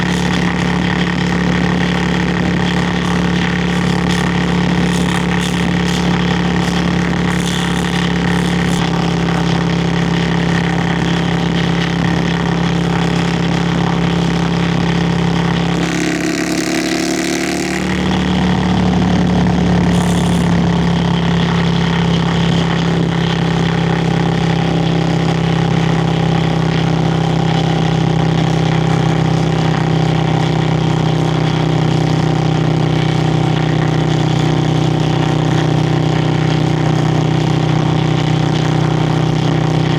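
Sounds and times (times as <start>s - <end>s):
motorcycle exhaust running: 0.0s - 39.9s.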